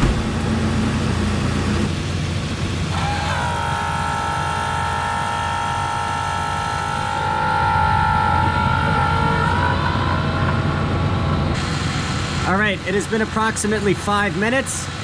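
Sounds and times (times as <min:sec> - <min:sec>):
electric pump whining: 0:00.0 - 0:15.0
engine idling: 0:00.0 - 0:15.0.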